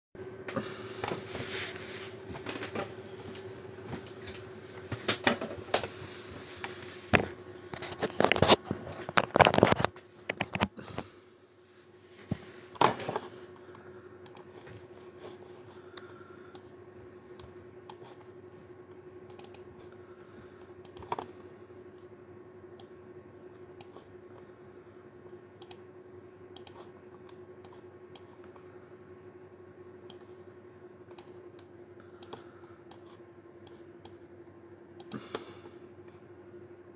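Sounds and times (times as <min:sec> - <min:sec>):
steady hum: 0:00.2 - 0:36.9.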